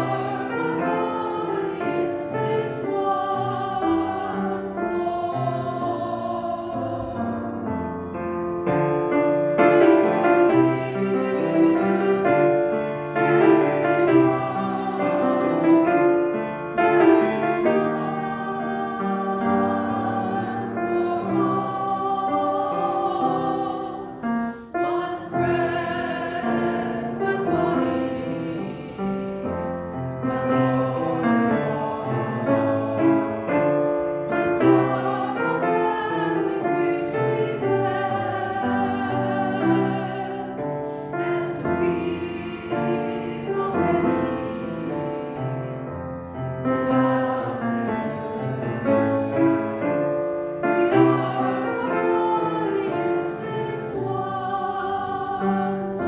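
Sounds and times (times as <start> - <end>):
piano accompaniment: 0.0 - 56.0
voices singing a hymn: 0.0 - 56.0.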